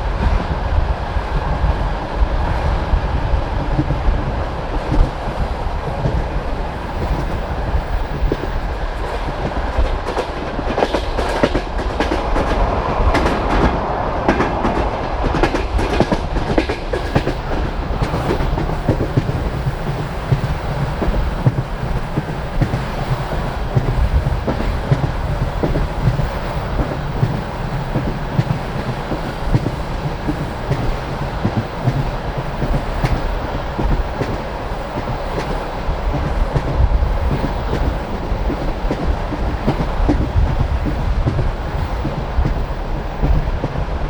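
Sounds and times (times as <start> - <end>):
rumble of wheels on track: 0.0 - 44.0
train wheels clattering over joints: 3.6 - 44.0.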